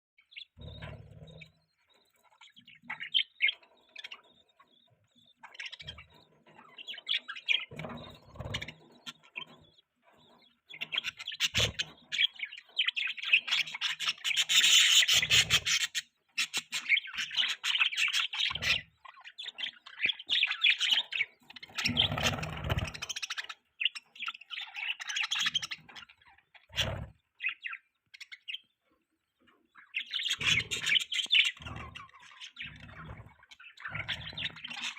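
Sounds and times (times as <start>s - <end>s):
budgerigar chirping and warbling: 0.2s - 28.8s, 29.7s - 34.9s.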